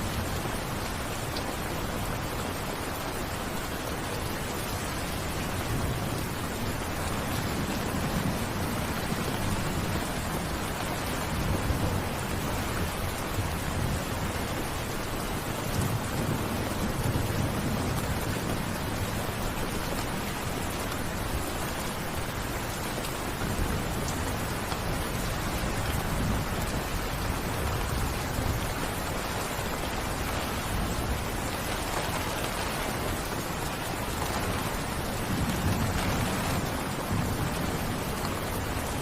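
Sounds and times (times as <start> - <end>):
rain falling: 0.0 - 39.0.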